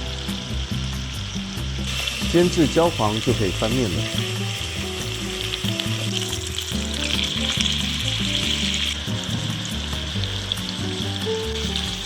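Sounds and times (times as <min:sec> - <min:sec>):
background music: 0:00.0 - 0:12.0
chicken sizzling in hot oil: 0:00.0 - 0:12.0.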